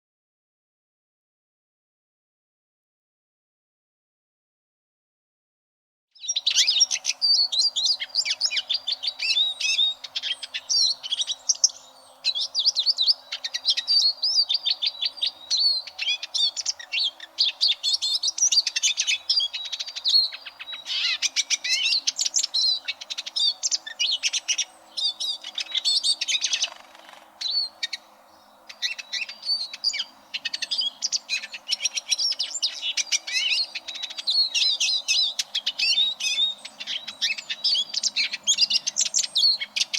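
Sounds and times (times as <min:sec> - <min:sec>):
bird twittering song: 0:06.2 - 0:39.9.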